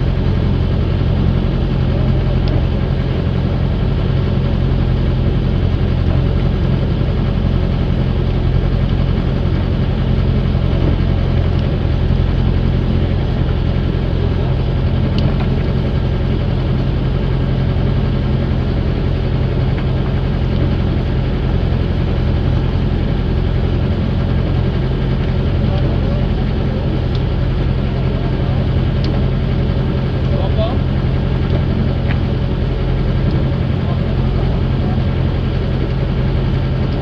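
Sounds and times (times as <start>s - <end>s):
boat engine throbbing: 0.0s - 37.0s.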